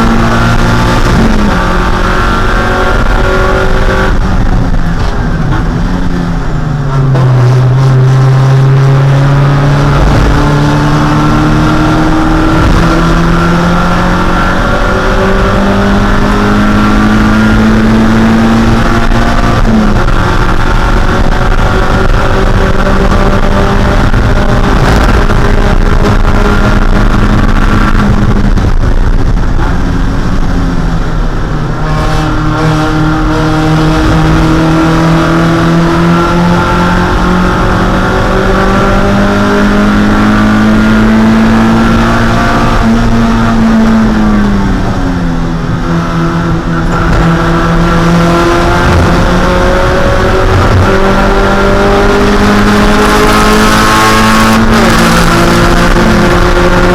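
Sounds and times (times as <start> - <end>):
race car engine under load: 0.0 - 56.9.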